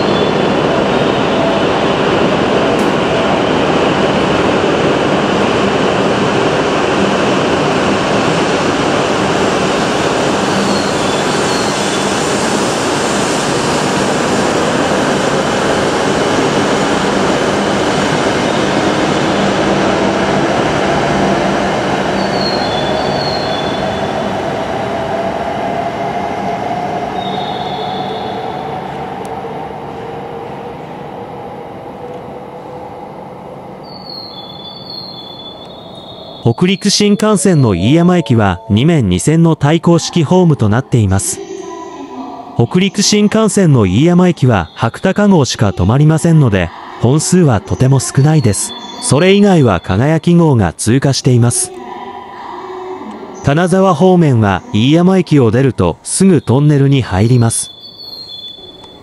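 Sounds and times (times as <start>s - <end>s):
train accelerating away: 0.0s - 59.0s.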